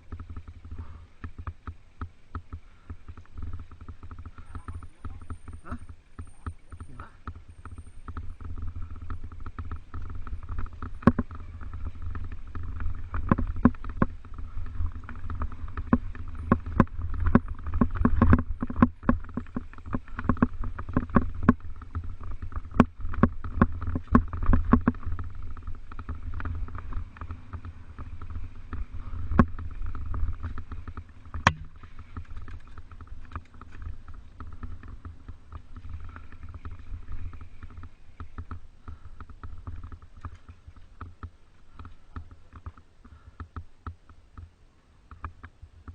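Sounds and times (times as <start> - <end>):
bike rattles and knocks: 0.0 - 45.9
mountain bike rumbling over rough ground: 0.0 - 45.9.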